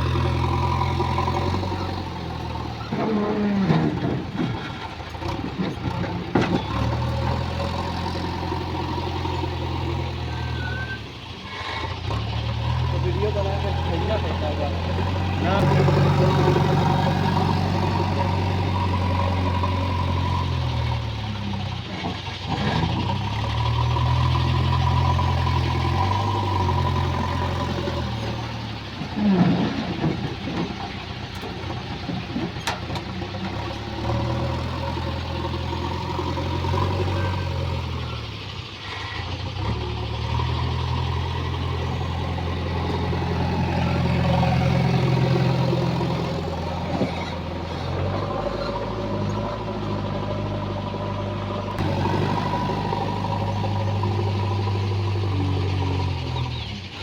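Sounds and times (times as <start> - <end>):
diesel engine working under load: 0.0 - 57.0.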